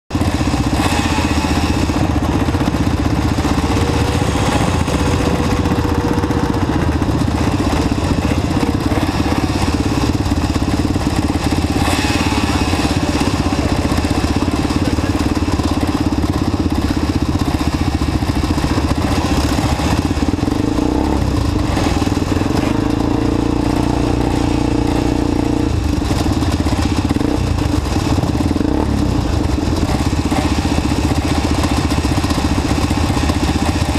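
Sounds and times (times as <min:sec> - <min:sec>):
all-terrain vehicle engines idling: 0:00.1 - 0:33.9
engine revving: 0:00.1 - 0:33.9.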